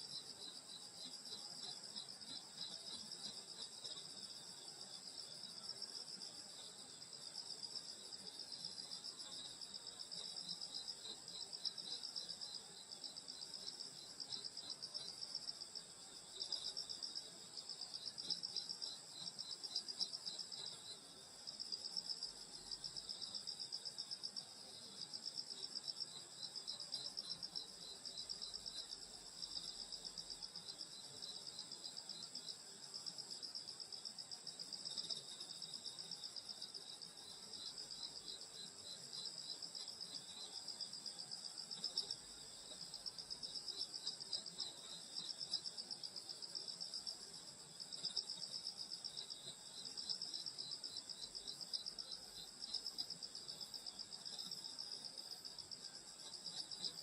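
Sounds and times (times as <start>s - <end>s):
insect chirping in rapid pulses: 0.0s - 57.0s
steady high insect trill: 0.0s - 57.0s.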